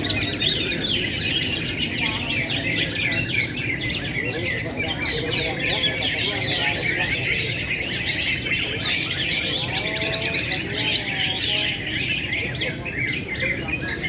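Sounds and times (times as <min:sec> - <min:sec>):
birds chirping and trilling: 0:00.0 - 0:14.0
crowd murmur: 0:00.0 - 0:14.0.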